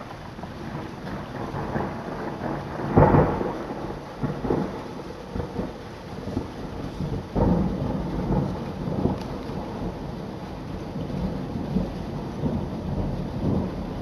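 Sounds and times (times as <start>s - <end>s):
falling rain: 0.0s - 14.0s
thunder rumbling: 0.0s - 14.0s.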